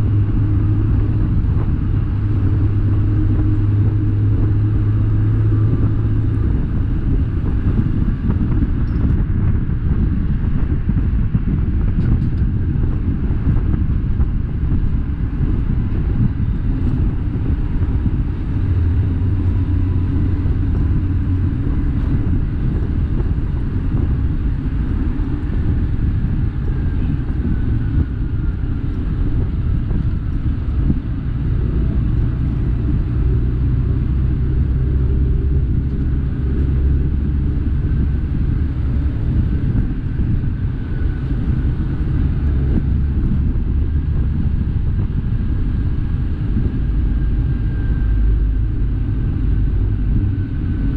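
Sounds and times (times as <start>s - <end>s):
road noise: 0.0s - 50.9s
vehicle engine rumble: 0.0s - 50.9s.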